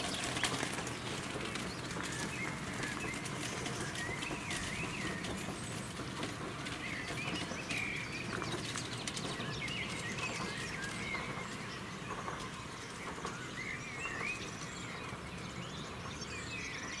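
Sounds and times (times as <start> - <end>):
birds chirping: 0.0 - 17.0
open air background noise: 0.0 - 17.0.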